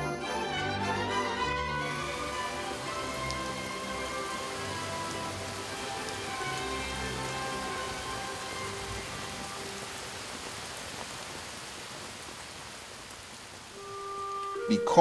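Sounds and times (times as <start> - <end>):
rain falling on foliage: 0.0 - 15.0.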